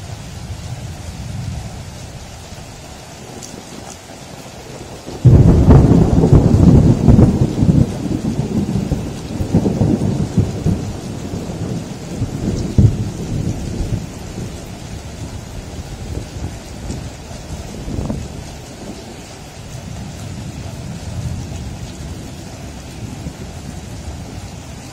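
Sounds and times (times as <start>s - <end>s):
heavy rain: 0.0s - 24.9s
thunder rumbling: 0.0s - 24.9s.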